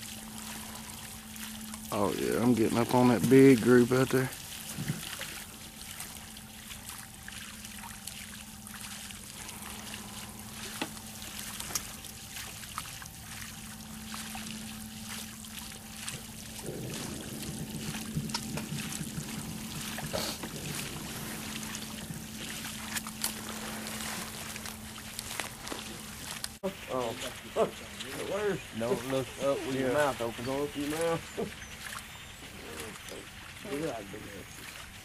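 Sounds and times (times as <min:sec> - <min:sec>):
faint steady hum: 0:00.0 - 0:35.0
water trickling and lapping: 0:00.0 - 0:35.0.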